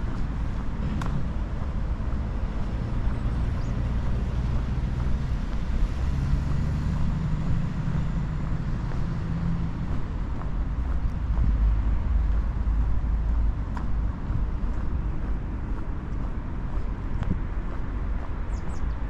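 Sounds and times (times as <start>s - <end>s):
road traffic rumble: 0.0s - 19.0s
vehicle engine hum: 0.0s - 19.0s.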